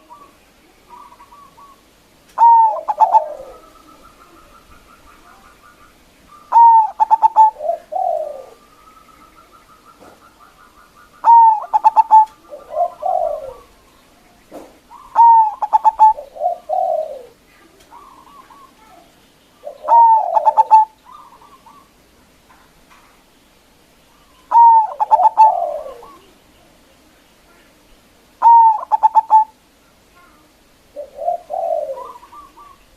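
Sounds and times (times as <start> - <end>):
dove cooing: 0.0 - 14.0, 14.8 - 19.0, 19.6 - 22.7, 24.1 - 26.4, 28.4 - 29.6, 30.3 - 32.9.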